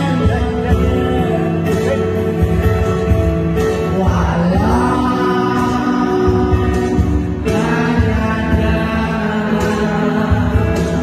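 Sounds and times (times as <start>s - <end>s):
man singing a slow song: 0.0s - 11.0s
musical accompaniment: 0.0s - 11.0s.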